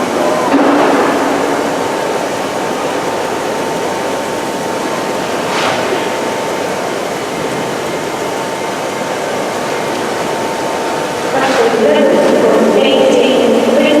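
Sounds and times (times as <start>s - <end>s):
steady rushing roar: 0.0s - 14.0s.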